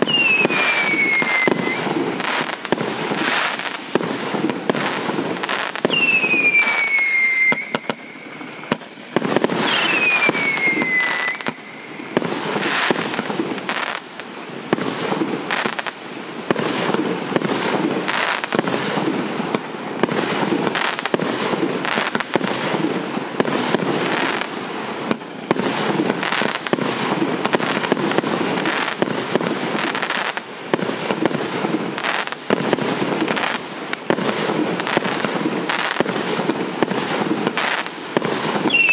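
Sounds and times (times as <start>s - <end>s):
falling firework whistles: 0.0s - 38.9s
firework cake firing: 0.0s - 38.9s.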